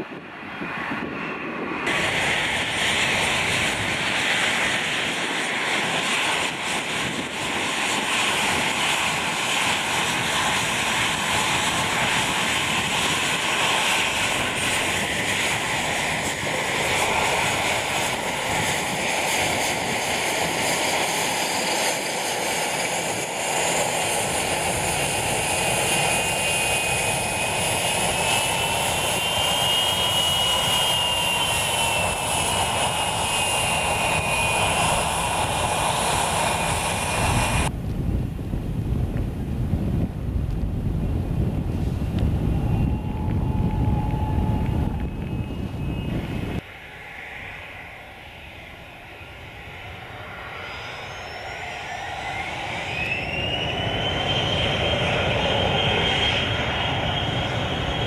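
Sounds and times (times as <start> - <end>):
distant jet approaching: 0.0 - 58.0
jet engines rushing: 0.0 - 58.0
turbine whine: 0.0 - 58.0.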